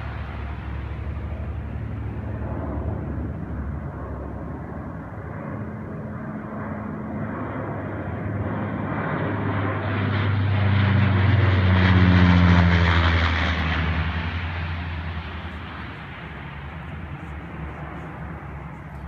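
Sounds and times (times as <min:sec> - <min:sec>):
propeller plane flying overhead: 0:00.0 - 0:19.0.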